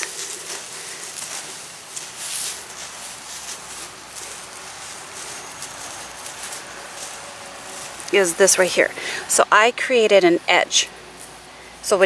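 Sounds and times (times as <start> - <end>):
footsteps on wood-chip mulch: 0.0 - 12.0
outdoor hiss: 0.0 - 12.0.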